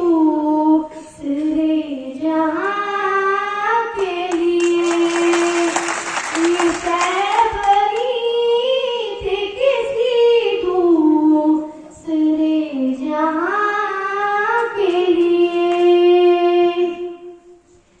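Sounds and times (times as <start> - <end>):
girl singing into a microphone: 0.0 - 5.8, 6.4 - 17.8.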